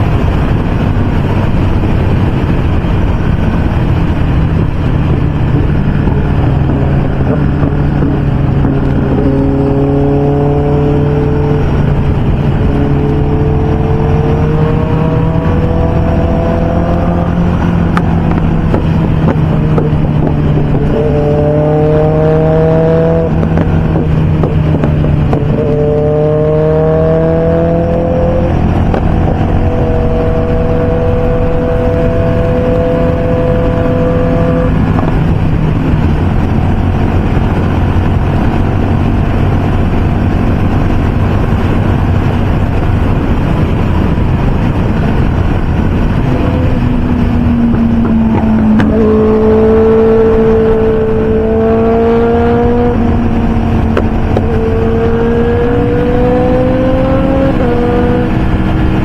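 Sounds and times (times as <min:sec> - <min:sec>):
motorcycle engine climbing in pitch: 0:00.0 - 0:59.0
motorcycle engine steady low note: 0:00.0 - 0:59.0
wind rush: 0:00.0 - 0:59.0.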